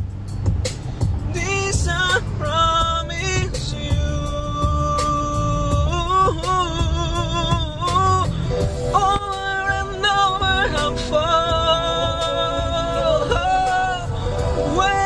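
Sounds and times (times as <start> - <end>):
steady beat: 0.0 - 15.0
pop ballad singing: 1.2 - 15.0.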